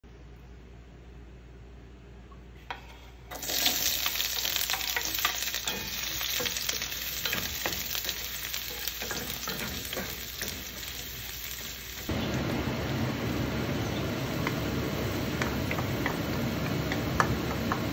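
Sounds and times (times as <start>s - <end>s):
onions sizzling in hot oil: 3.3s - 17.9s.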